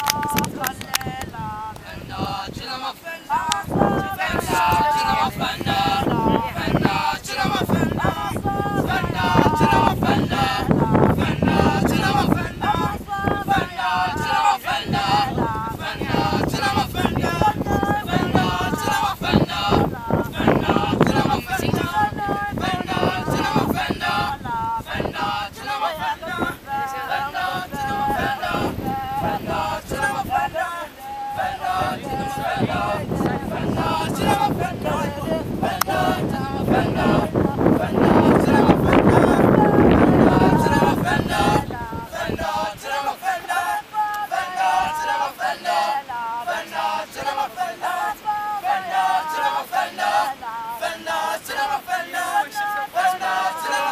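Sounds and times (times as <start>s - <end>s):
wind buffeting microphone: 0.0s - 52.0s
men singing together: 0.0s - 53.9s.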